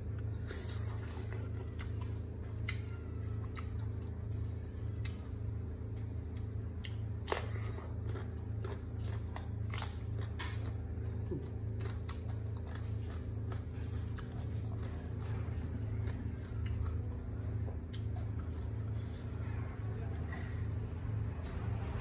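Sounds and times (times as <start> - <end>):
person chewing and crunching: 0.0 - 20.4
steady low hum: 0.0 - 22.0.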